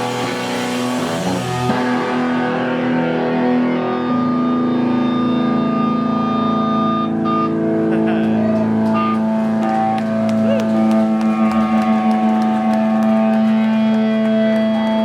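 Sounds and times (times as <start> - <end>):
electric guitars ringing chord: 0.0 - 15.0
high feedback whine: 0.0 - 15.0.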